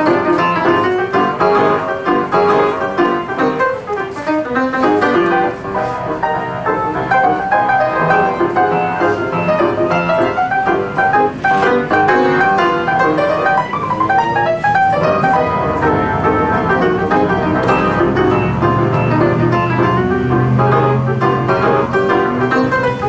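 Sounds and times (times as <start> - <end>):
ragtime upright piano: 0.0 - 23.0.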